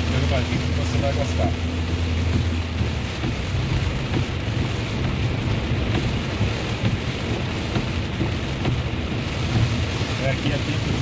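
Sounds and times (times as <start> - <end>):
heavy rain drumming on car: 0.0 - 11.0
tyres rumbling on wet road: 0.0 - 11.0.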